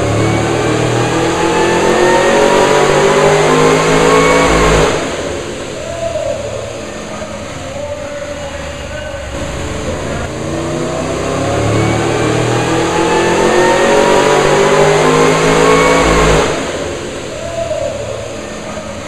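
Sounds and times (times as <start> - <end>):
supercharged engine revving: 0.0 - 19.0.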